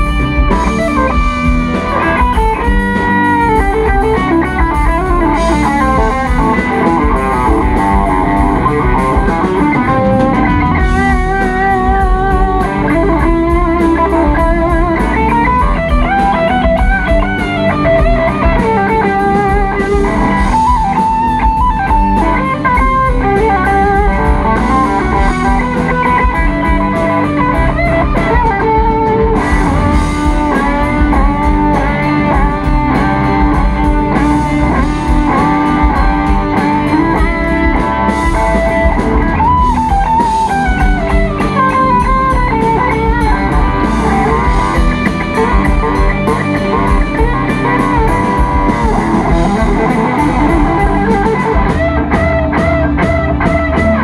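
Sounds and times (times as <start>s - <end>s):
drums and bass: 0.0s - 54.0s
electric guitar runs: 0.0s - 54.0s.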